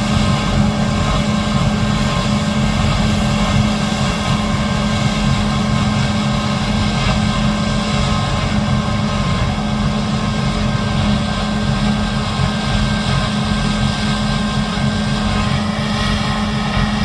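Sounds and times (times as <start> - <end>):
diesel harvest machinery running: 0.0 - 17.0.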